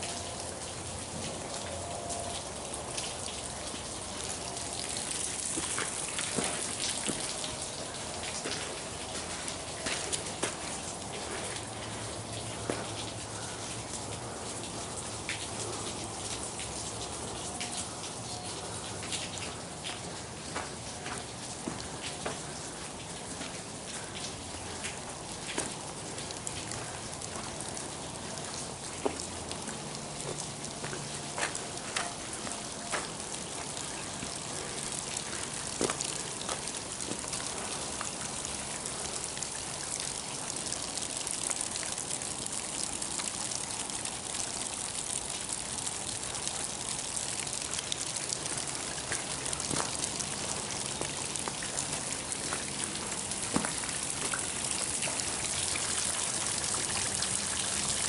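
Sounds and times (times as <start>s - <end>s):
water dripping onto stony ground: 0.0s - 58.0s.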